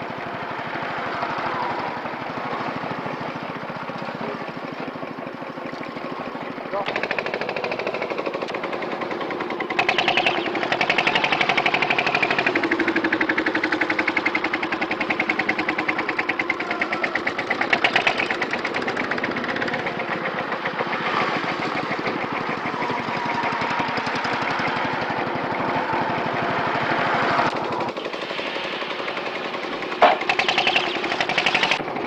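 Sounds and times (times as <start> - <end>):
machine clattering with whine: 2.7 - 32.0.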